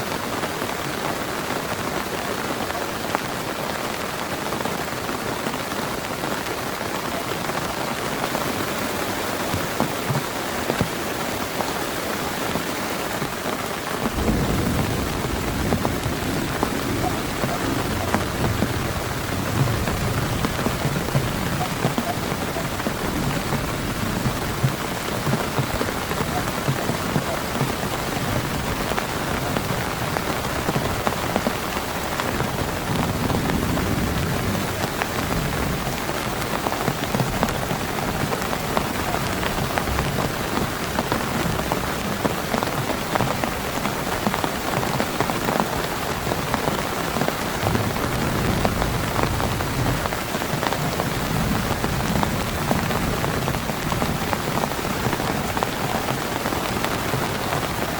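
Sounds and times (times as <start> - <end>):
heavy rain: 0.0 - 57.9.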